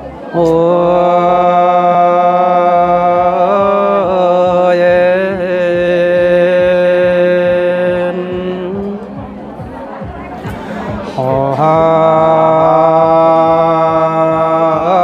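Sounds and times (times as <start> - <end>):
person chanting: 0.3 - 9.1, 11.0 - 15.0.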